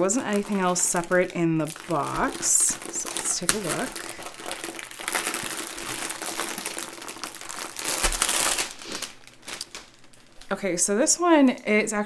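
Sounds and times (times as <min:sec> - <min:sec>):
plastic wrapping crinkling: 0:00.0 - 0:11.7.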